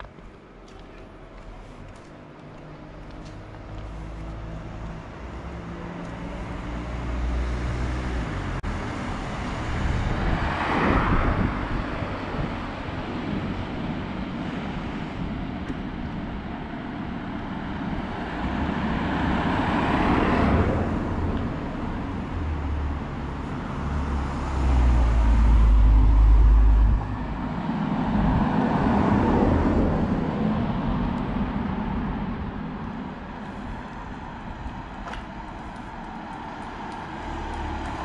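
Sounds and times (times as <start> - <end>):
cars passing: 0.0 - 38.0.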